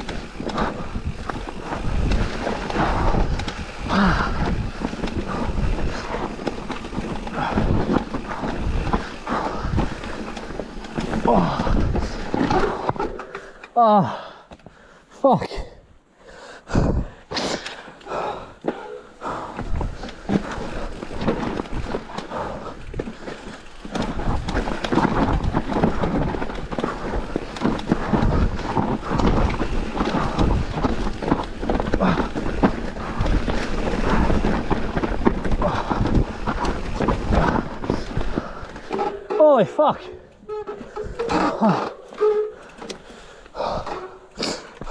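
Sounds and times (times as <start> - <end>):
bike knocking and rattling: 0.0 - 14.8, 17.6 - 44.9
bike tyres rolling over dirt: 0.0 - 14.8, 17.6 - 44.9.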